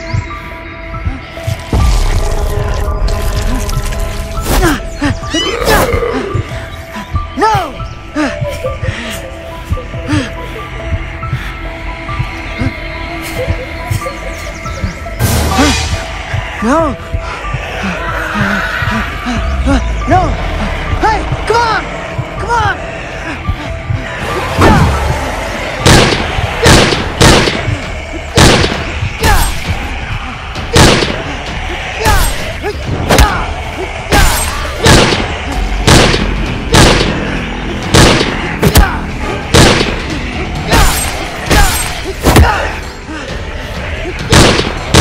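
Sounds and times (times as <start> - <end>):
background music: 0.0 - 45.0.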